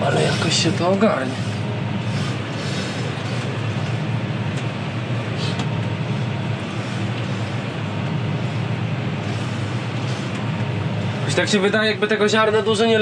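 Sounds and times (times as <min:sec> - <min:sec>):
tractor engine drone in cab: 0:00.0 - 0:13.0.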